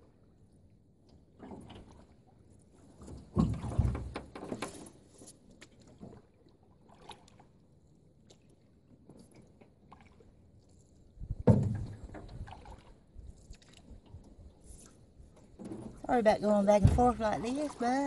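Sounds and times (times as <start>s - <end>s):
faint water sounds: 0.0s - 18.0s
paddle splashing: 1.0s - 18.0s.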